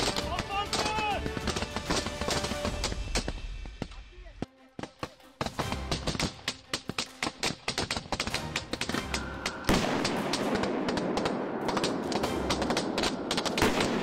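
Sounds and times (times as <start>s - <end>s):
rapid gunfire: 0.0s - 3.3s, 4.8s - 14.0s
background music: 0.0s - 14.0s.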